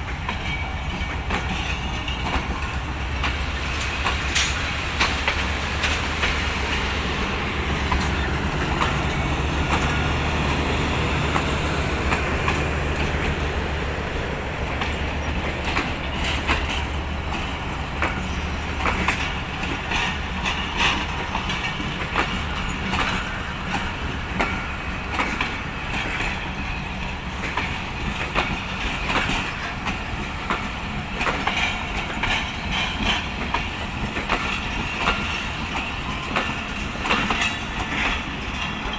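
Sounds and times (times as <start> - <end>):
diesel locomotive engine drone: 0.0 - 38.9
train wheel squeal: 0.0 - 38.9
train wheels clicking over rails: 0.0 - 38.9.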